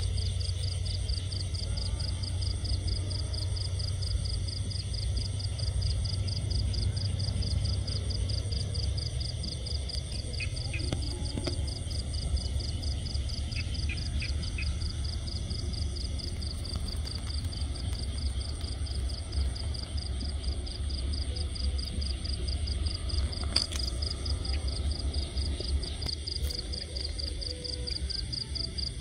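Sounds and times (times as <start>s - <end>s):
cricket chirping: 0.0s - 29.0s
low wind rumble on microphone: 0.0s - 29.0s.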